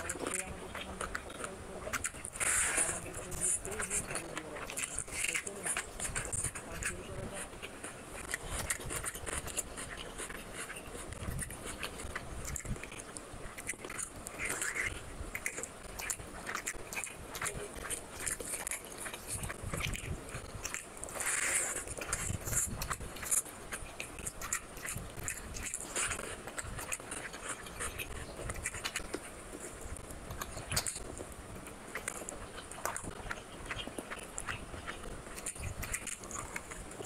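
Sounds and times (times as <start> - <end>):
wet chewing and lip-smacking: 0.0 - 37.0.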